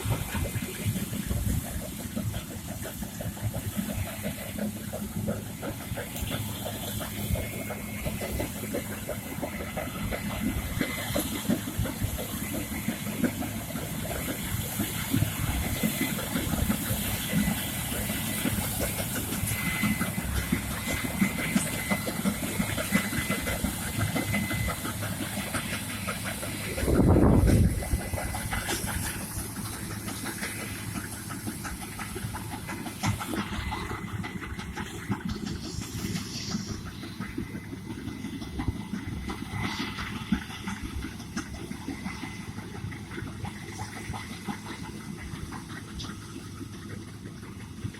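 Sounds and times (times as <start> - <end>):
continuous rattling rush: 0.0 - 47.9
machinery engine tone: 0.0 - 47.9.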